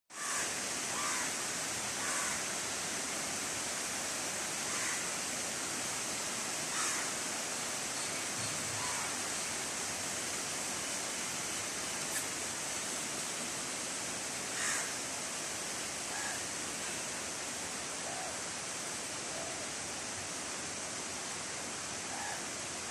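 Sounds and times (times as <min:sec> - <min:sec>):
heavy rain on foliage: 0:00.1 - 0:22.9.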